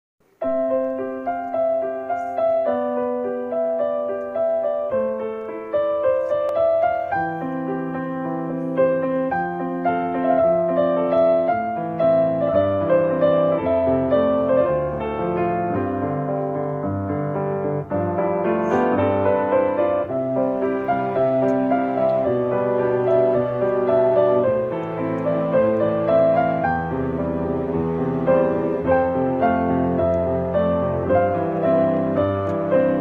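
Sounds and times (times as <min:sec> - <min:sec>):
piano chords and melody: 0:00.2 - 0:33.0.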